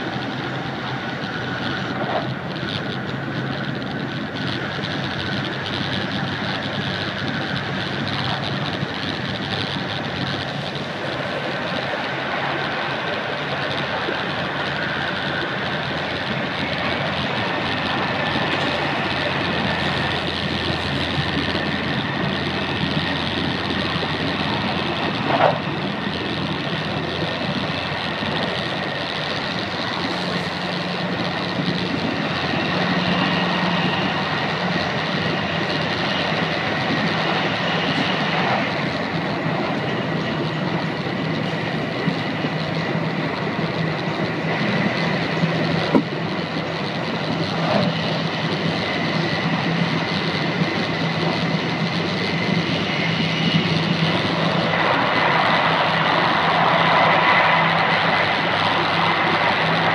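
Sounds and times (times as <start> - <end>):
low hum: 0.0 - 59.9
thin high whine: 0.0 - 59.9.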